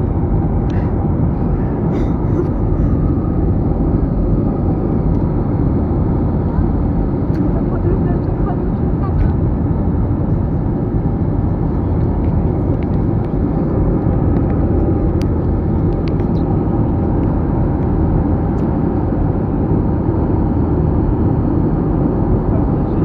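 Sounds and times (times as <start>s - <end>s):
airliner cabin engine noise: 0.0s - 23.0s.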